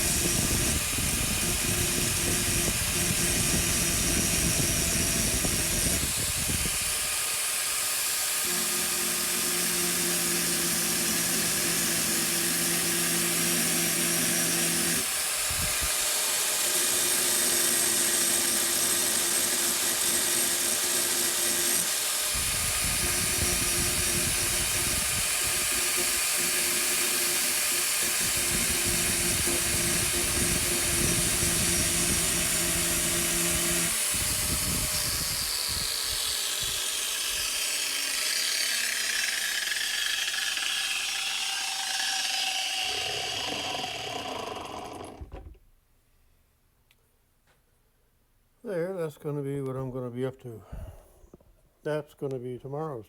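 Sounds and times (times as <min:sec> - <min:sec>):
grinder on metal: 0:00.0 - 0:45.4.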